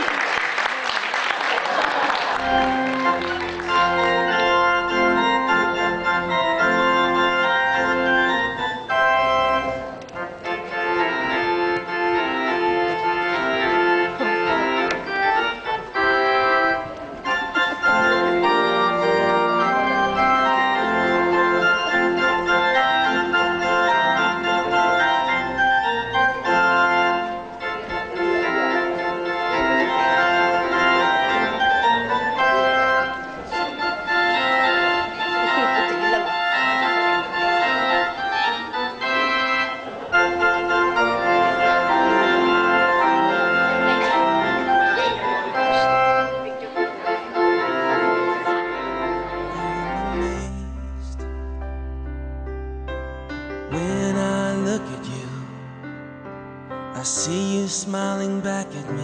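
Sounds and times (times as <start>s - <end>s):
organ music: 0.0s - 59.0s.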